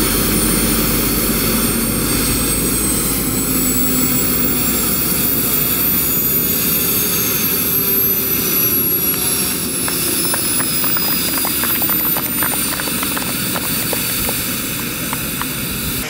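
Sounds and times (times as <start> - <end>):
high whine falling in pitch: 0.0 - 16.0
model helicopter rotors spinning down: 0.0 - 16.0.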